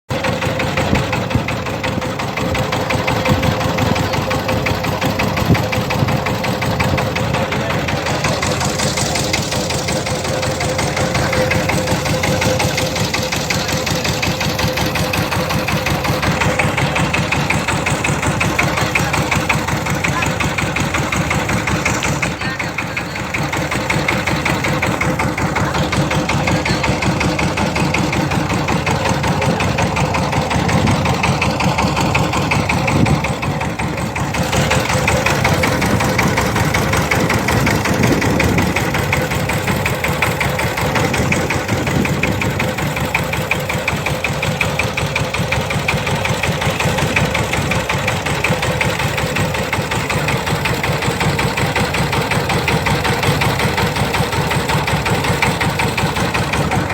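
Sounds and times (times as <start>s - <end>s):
motorboat engine chugging: 0.1s - 56.9s.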